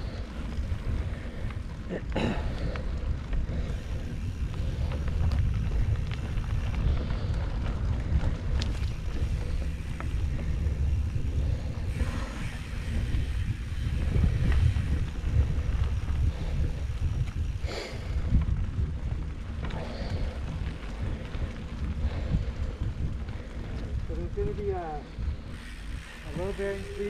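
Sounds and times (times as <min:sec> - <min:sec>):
bike clicks and rattles: 0:00.0 - 0:27.0
wind buffeting microphone: 0:00.0 - 0:27.0.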